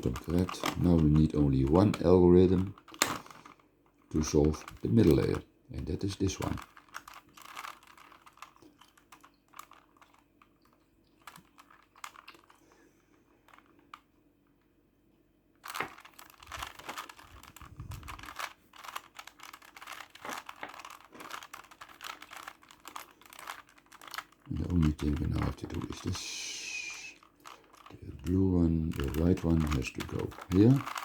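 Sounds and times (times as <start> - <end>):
puzzle cube clicking and rattling: 0.0 - 12.7, 15.6 - 31.0.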